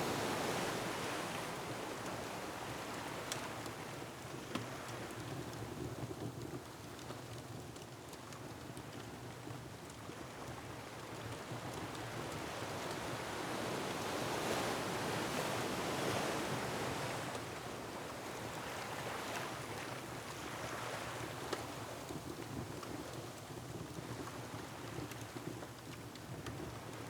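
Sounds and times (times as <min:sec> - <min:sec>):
wind: 0:00.0 - 0:27.0.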